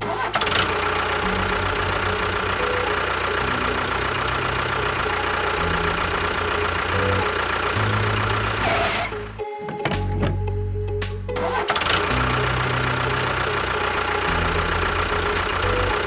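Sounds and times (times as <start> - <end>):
small engine running: 0.0 - 9.4, 11.4 - 16.0.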